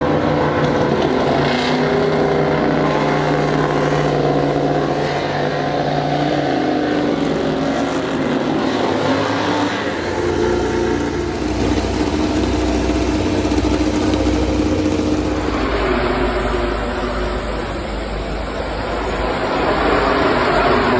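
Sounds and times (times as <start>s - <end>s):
deep engine rumble: 0.0s - 20.9s
racing motorcycle engines: 0.0s - 20.9s.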